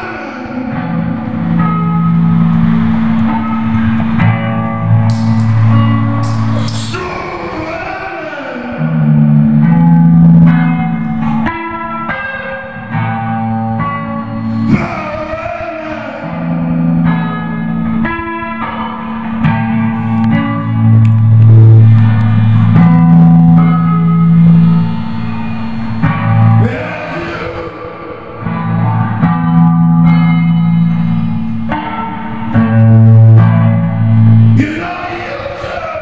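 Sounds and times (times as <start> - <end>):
electric guitar: 0.0 - 36.0.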